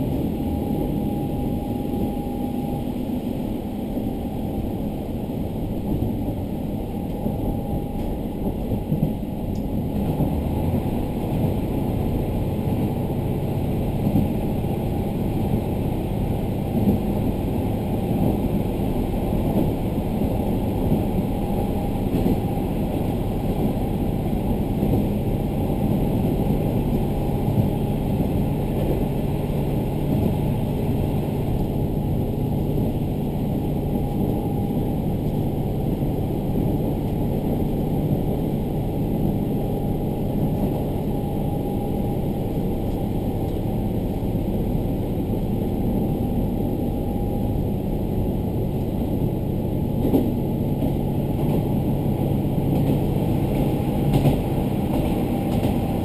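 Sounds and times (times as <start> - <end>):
railcar engine and wheels rumbling: 0.0 - 56.0.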